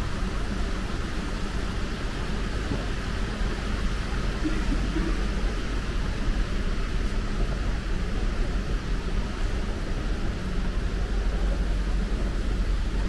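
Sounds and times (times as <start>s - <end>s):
airport terminal hall rumble: 0.0s - 13.0s.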